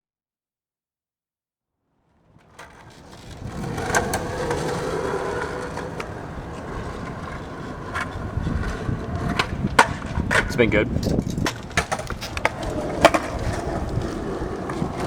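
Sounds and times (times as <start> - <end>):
skateboard wheels rolling on pavement: 1.9 - 15.0.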